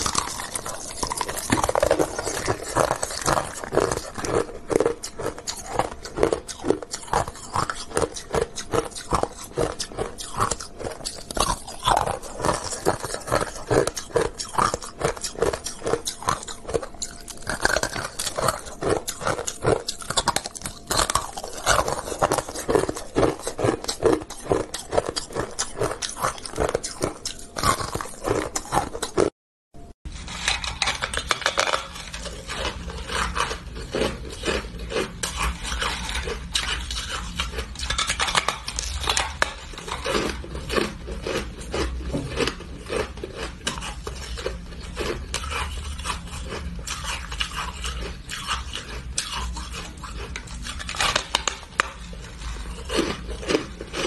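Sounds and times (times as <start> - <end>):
person crunching ice: 0.0 - 29.3, 30.4 - 54.0.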